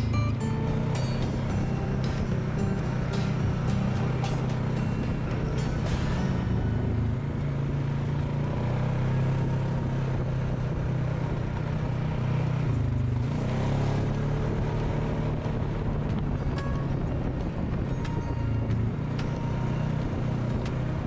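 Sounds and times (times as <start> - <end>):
atv engine droning: 0.0 - 21.0.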